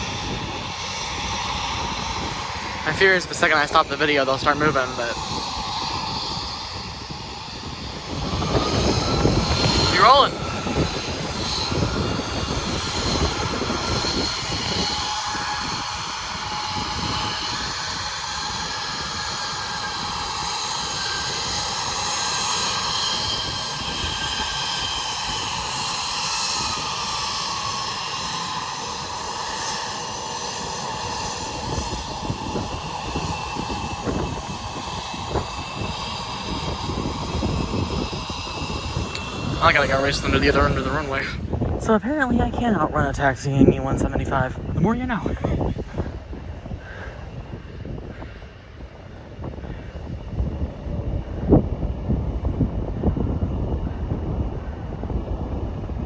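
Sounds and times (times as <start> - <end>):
jet engines whining: 0.0 - 56.0
wind buffeting microphone: 0.0 - 56.0.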